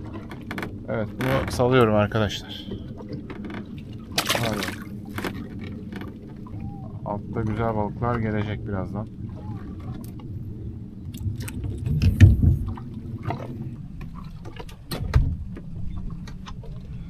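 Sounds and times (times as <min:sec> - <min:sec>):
clicks and knocks on a boat: 0:00.0 - 0:08.6, 0:09.3 - 0:10.4, 0:11.1 - 0:17.0
steady low rumble: 0:00.0 - 0:17.0.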